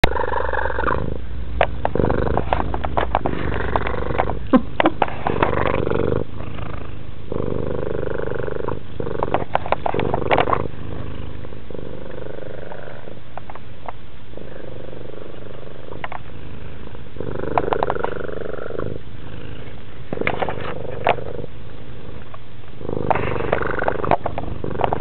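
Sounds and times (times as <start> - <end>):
cat purring: 0.0 - 13.7, 14.3 - 25.0.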